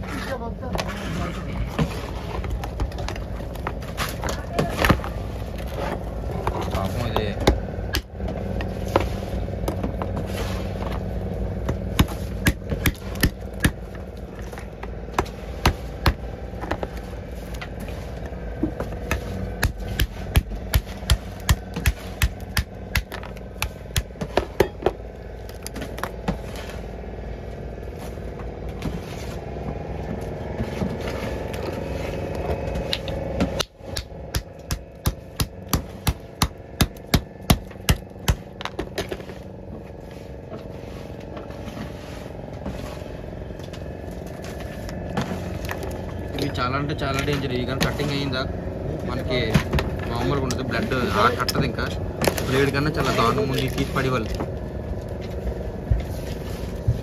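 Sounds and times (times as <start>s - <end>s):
boat engine running: 0.0s - 57.0s
knocks and scrapes cutting fish: 0.0s - 57.0s.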